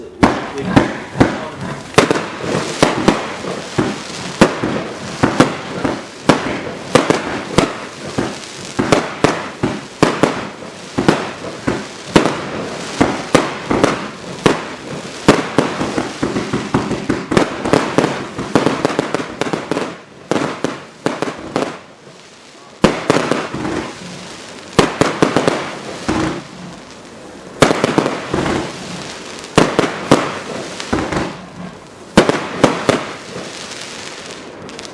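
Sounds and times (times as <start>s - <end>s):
firework barrage bangs: 0.0s - 34.9s
firework hiss: 0.0s - 34.9s.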